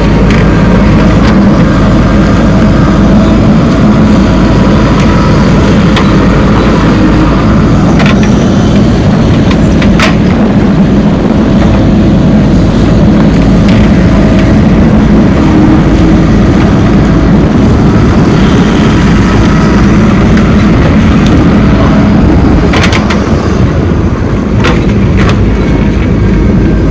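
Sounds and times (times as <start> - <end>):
heavy diesel engine running: 0.0 - 26.9.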